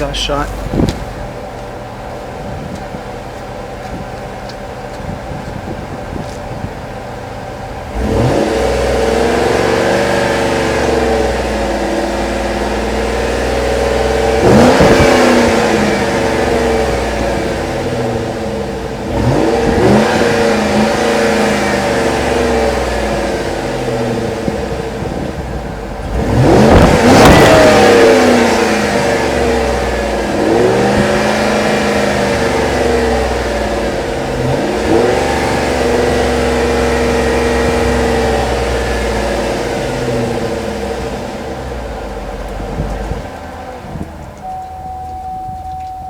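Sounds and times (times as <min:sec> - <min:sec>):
car engine idling and revving: 0:00.0 - 0:46.0.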